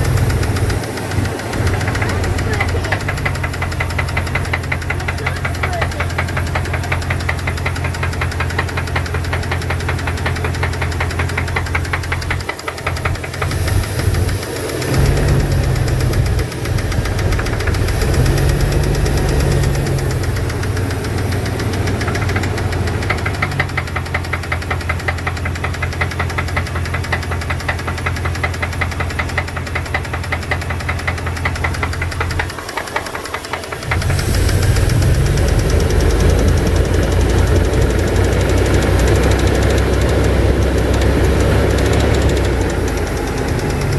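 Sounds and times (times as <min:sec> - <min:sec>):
engine running with ticking knock: 0:00.0 - 0:43.9.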